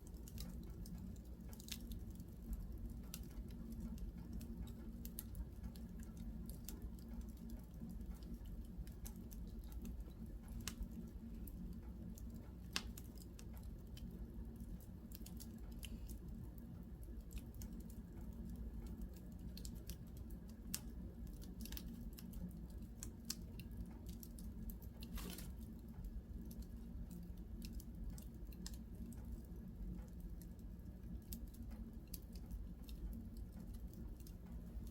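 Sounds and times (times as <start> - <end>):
low steady hum: 0.0 - 34.9
wood fire crackling and popping: 0.0 - 34.9.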